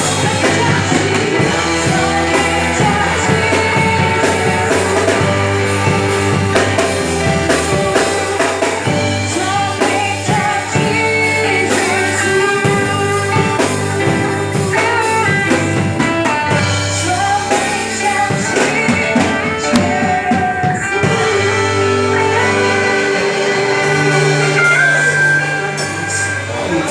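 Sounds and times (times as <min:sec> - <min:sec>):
band with drums and guitar: 0:00.0 - 0:26.9
gospel group singing: 0:00.0 - 0:26.9.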